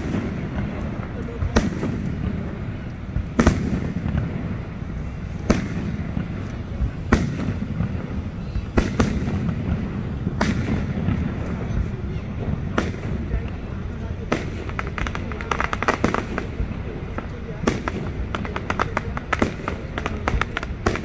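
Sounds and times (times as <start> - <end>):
fireworks bursting: 0.0 - 21.0
steady low rumble: 0.0 - 21.0.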